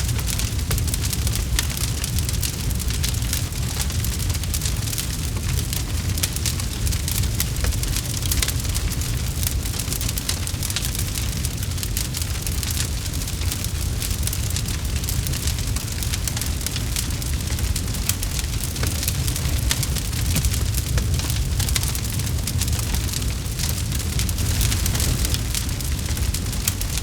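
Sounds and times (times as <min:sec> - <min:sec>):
campfire crackling: 0:00.0 - 0:27.0
low rumble of fire: 0:00.0 - 0:27.0.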